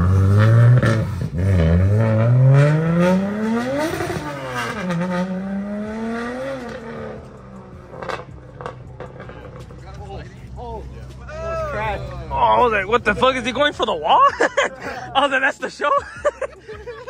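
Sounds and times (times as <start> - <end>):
car engine at full throttle: 0.0 - 15.5.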